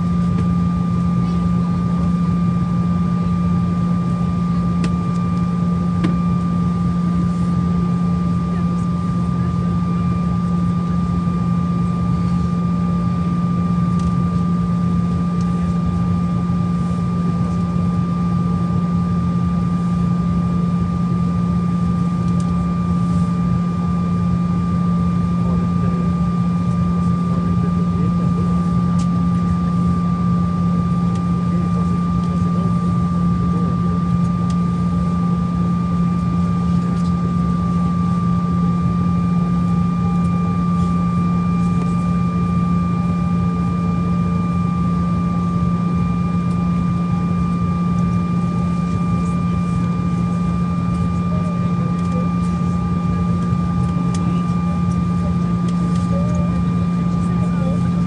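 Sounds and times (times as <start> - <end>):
airliner engine hum: 0.0 - 58.0.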